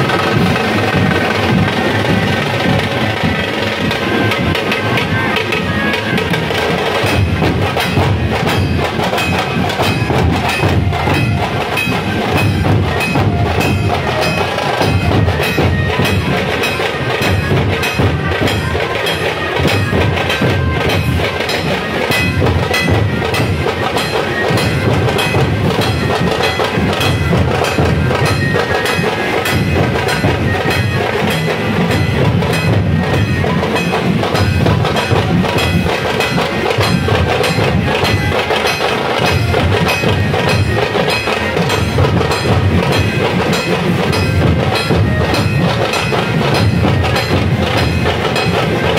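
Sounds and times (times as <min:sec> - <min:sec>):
dhol drums beaten in rhythm: 0:00.0 - 0:48.9.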